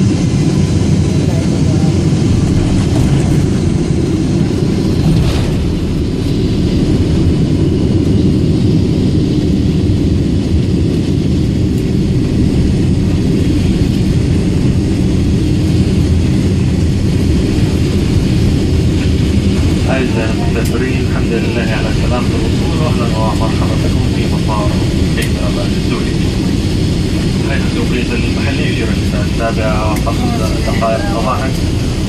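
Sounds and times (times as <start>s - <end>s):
aircraft engines and airflow in cabin: 0.0s - 32.0s.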